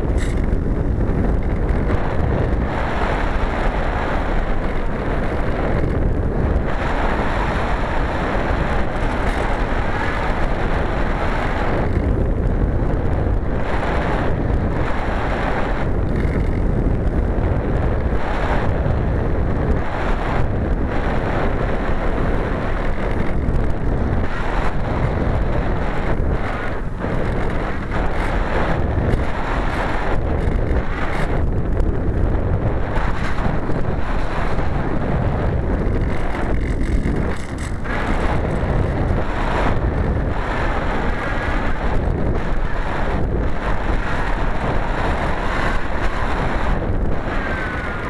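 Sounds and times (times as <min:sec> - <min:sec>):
electric motor and propeller: 0:00.0 - 0:48.0
wind rushing over microphone: 0:00.0 - 0:48.0.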